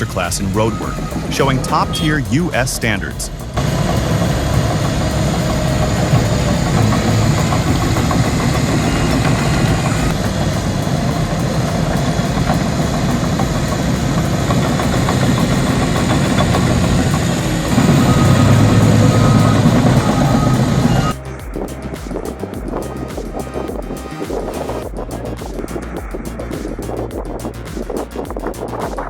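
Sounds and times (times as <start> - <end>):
heavy equipment engine running: 0.0 - 28.2.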